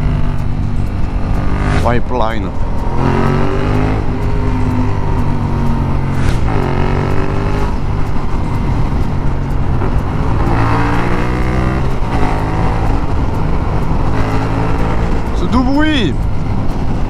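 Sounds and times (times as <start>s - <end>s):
motorcycle engine revving: 0.0s - 17.0s
wind and road noise: 0.0s - 17.0s.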